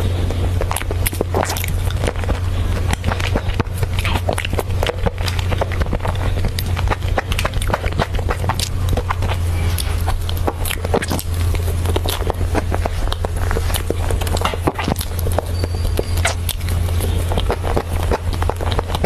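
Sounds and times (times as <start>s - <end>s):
soft chewing clicks: 0.0s - 19.0s
steady low hum: 0.0s - 19.0s
wet lip smacks: 0.3s - 19.0s.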